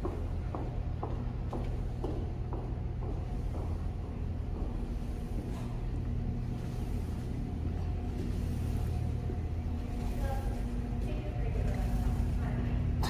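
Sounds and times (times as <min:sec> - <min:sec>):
faint mechanical hum: 0:00.0 - 0:13.0.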